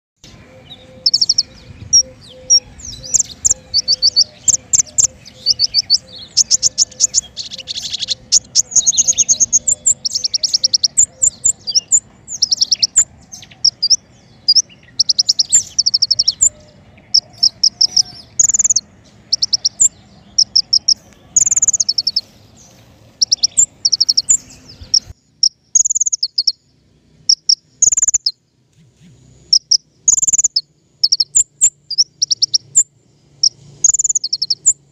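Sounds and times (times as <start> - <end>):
bird trilling and chirping: 0.2 - 34.9.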